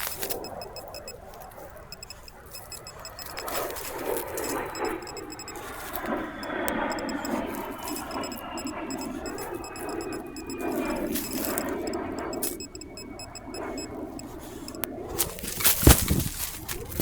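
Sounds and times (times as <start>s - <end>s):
sharp click: 0.0s - 1.2s, 2.0s - 14.9s
metal detector high-pitched pips: 0.0s - 17.0s
faint sliding tone: 1.9s - 15.7s.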